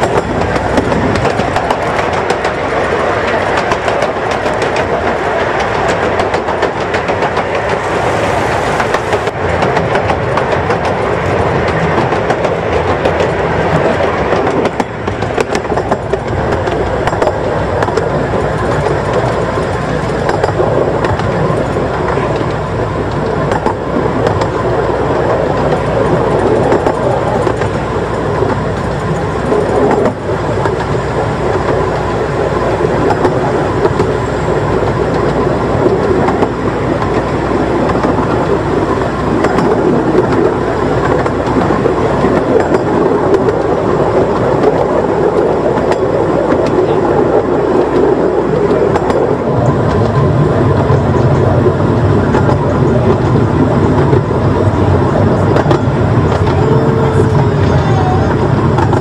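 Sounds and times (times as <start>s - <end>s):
train wheels rumbling and rattling: 0.0s - 59.0s.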